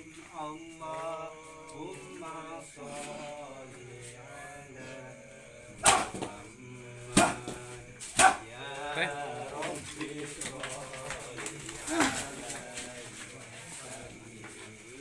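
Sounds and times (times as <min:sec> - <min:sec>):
person chanting: 0:00.0 - 0:15.0.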